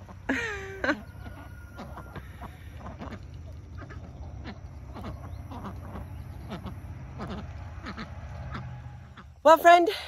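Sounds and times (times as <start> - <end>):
ducks quacking: 0.0 - 9.5
low steady rumble: 0.0 - 10.0.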